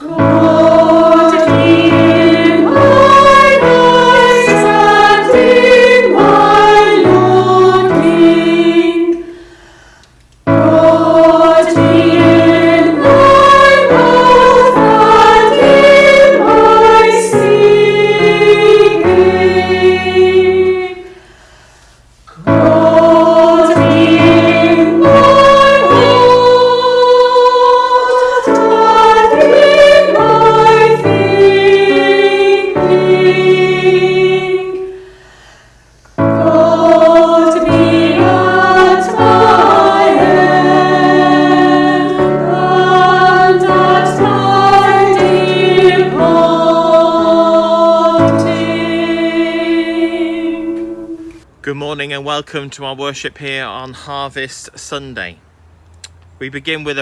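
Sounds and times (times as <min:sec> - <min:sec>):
choir singing: 0:00.0 - 0:09.4, 0:10.5 - 0:21.2, 0:22.4 - 0:35.2, 0:36.2 - 0:51.5.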